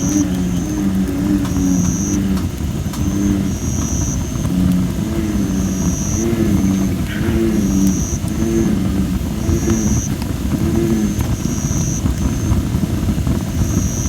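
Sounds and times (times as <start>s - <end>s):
bullfrogs croaking: 0.0s - 14.0s
campfire crackling: 0.0s - 14.0s.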